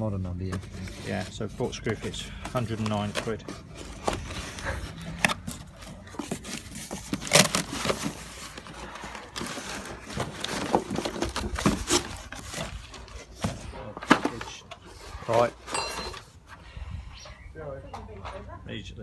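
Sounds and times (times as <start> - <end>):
packaging rustling: 0.4 - 16.4
cardboard box being opened: 0.5 - 16.4.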